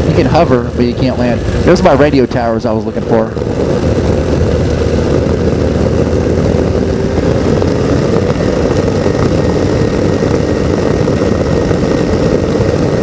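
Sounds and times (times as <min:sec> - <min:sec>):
ultralight engine and propeller drone: 0:00.0 - 0:13.0
wind noise: 0:00.0 - 0:13.0.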